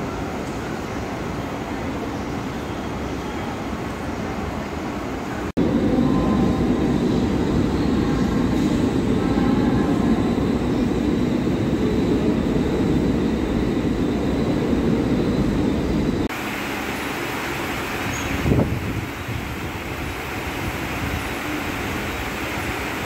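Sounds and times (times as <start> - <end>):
train rumbling on tracks: 0.0 - 23.0.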